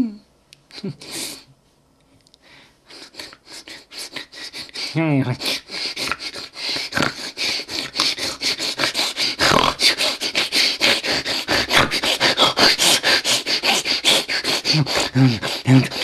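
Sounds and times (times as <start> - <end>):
man making breathy hissing puffs: 0.7 - 1.5, 2.5 - 16.0.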